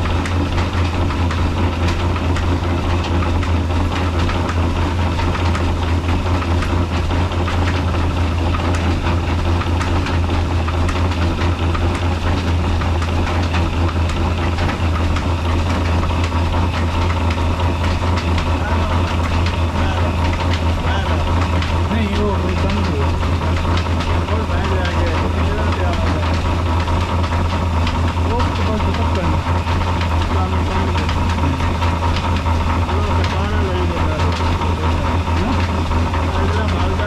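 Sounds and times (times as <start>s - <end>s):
diesel engine deep beat: 0.0s - 37.0s.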